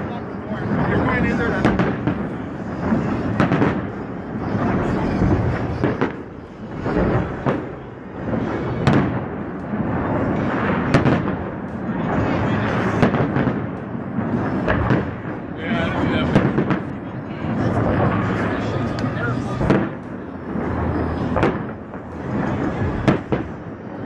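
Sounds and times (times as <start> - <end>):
fireworks rumbling barrage: 0.0 - 24.0
sharp firework bangs: 0.0 - 24.0.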